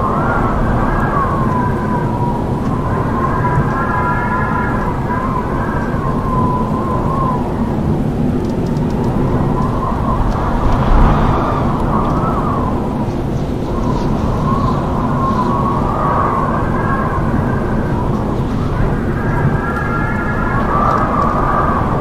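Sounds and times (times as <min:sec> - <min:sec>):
howling wind: 0:00.0 - 0:22.0.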